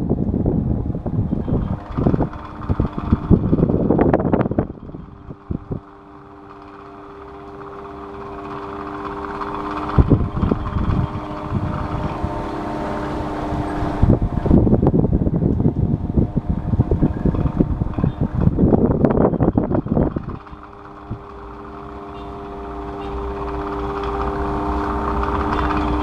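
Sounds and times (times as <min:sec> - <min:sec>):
electric fan humming: 0:00.0 - 0:26.0
rough rumbling with knocks: 0:00.0 - 0:26.0.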